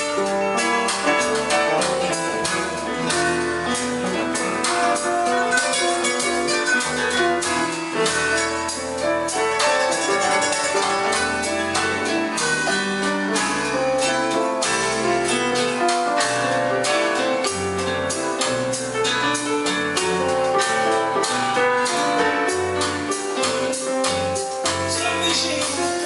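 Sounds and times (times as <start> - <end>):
band music: 0.0 - 26.0.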